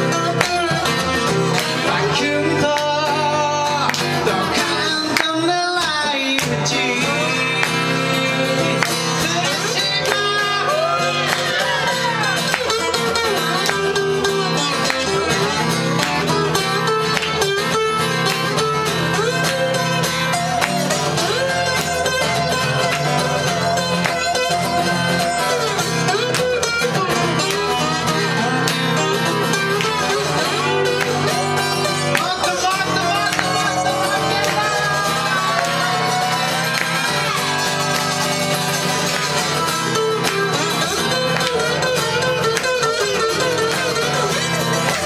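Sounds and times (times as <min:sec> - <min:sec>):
picked guitar melody: 0:00.0 - 0:45.0
strummed acoustic guitar chords: 0:00.0 - 0:45.0.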